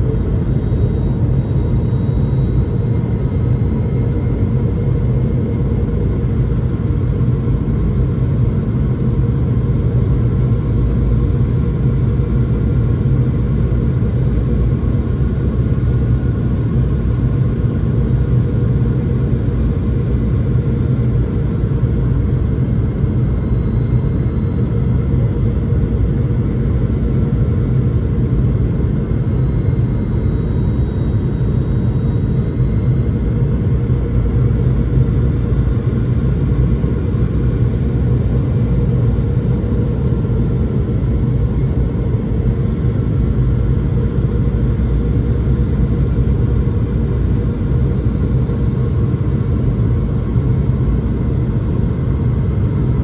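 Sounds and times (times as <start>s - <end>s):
faint high whine: 0.0s - 53.0s.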